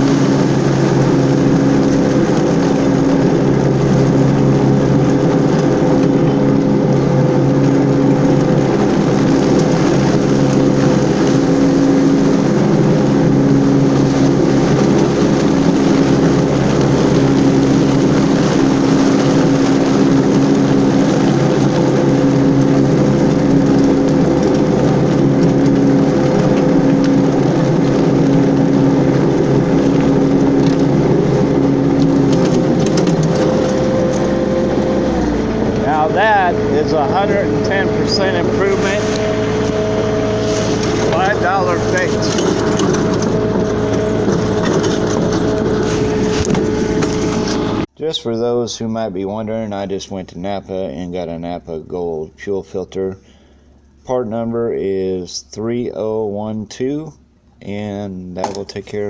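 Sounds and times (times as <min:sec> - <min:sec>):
blades mulching leaves: 0:00.0 - 0:47.9
mower engine running: 0:00.0 - 0:47.9.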